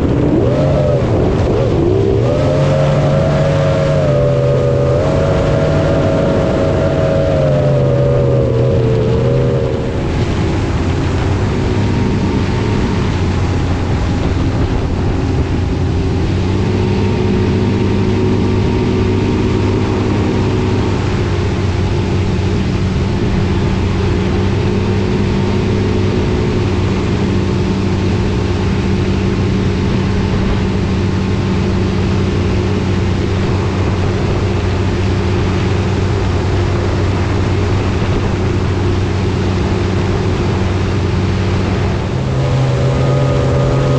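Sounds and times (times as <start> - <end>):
engine humming steadily: 0.0 - 43.9.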